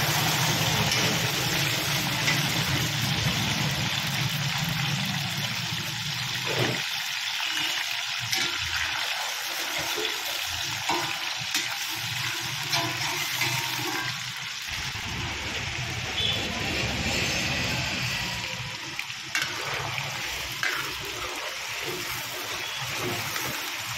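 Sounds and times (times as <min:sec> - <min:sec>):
chicken sizzling in hot oil: 0:00.0 - 0:23.9.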